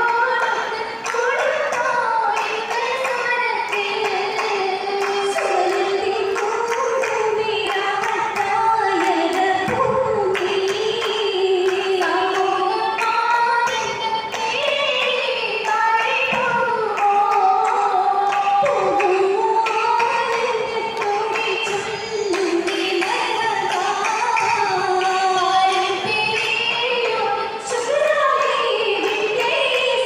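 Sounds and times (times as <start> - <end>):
hand claps keeping beat: 0.0 - 30.0.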